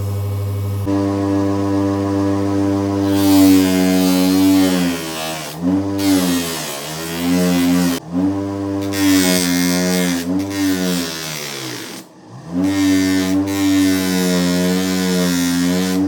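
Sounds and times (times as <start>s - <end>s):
power tool grinding: 0.0s - 16.0s.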